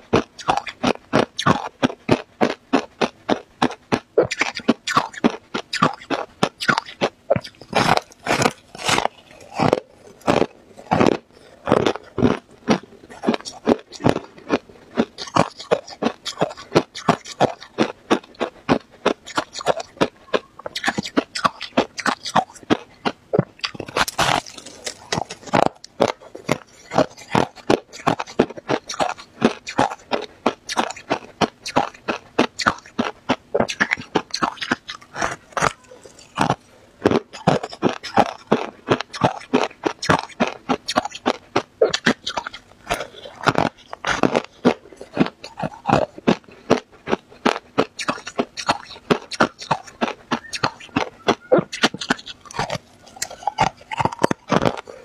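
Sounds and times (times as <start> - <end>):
frost being chewed: 0.0 - 55.0.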